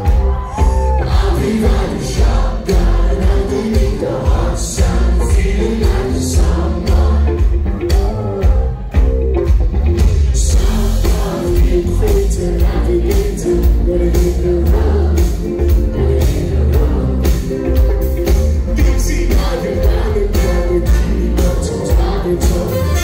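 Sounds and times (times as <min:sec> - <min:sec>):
live pop-rock band: 0:00.0 - 0:23.0
male lead vocal: 0:00.3 - 0:08.1, 0:10.2 - 0:17.8, 0:18.6 - 0:23.0.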